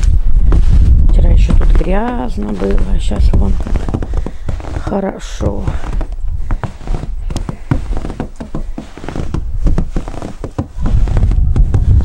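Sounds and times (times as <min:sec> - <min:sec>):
footsteps crunching in snow: 0:00.0 - 0:12.0
low rumble on microphone: 0:00.0 - 0:12.0.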